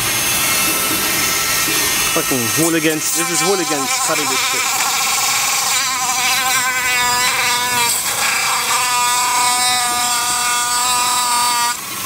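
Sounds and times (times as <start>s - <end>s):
rotary tool cutting plastic: 0.0s - 12.0s.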